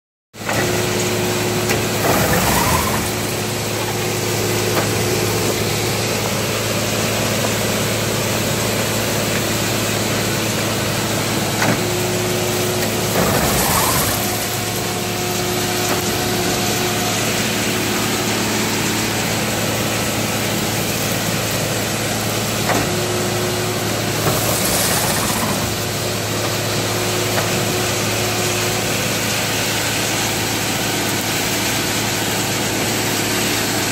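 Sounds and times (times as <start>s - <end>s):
harvesting machine engine running: 0.4s - 33.9s
leaves and debris thrashing: 1.0s - 32.4s.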